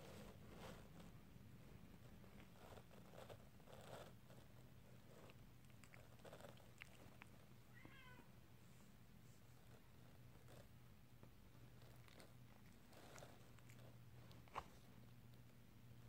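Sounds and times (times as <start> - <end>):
faint rustling: 0.0 - 15.6.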